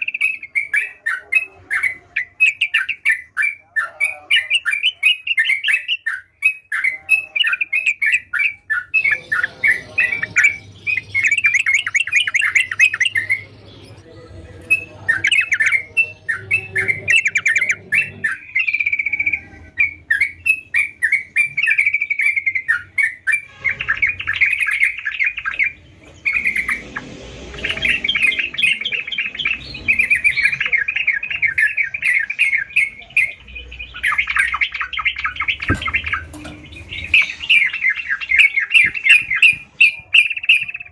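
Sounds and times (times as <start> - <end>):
bird chattering chirps: 0.0 - 40.9.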